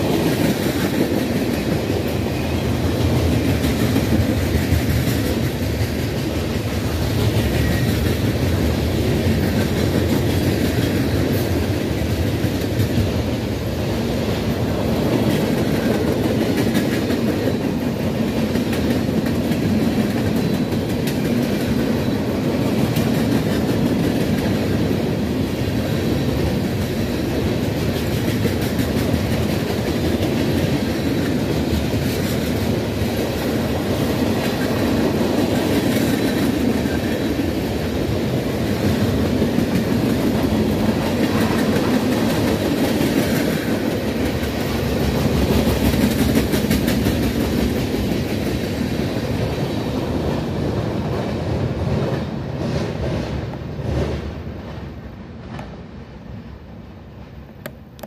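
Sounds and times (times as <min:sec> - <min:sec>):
train wheels clacking on rails: 0:00.0 - 0:55.9.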